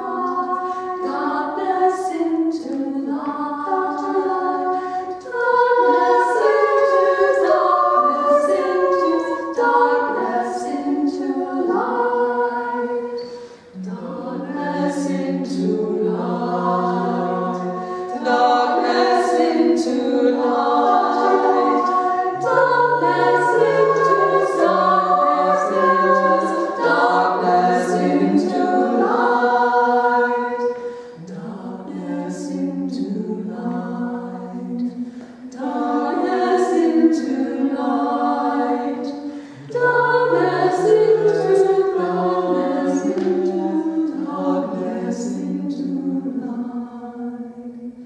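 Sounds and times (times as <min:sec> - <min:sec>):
women singing a cappella harmony: 0:00.0 - 0:48.0.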